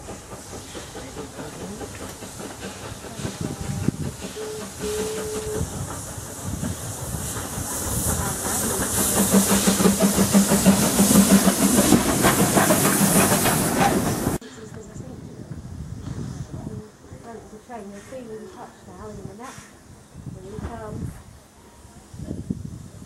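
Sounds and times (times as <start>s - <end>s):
steam hiss: 0.0s - 14.6s, 15.4s - 23.0s
steam locomotive running past: 0.0s - 23.0s.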